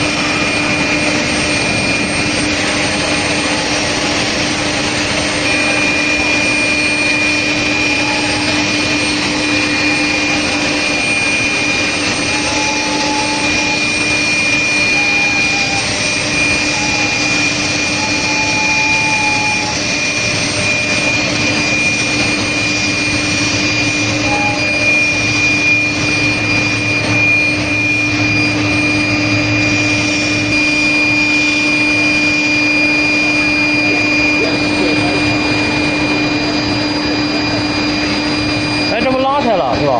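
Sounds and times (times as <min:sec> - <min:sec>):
industrial machinery humming: 0:00.0 - 0:39.9.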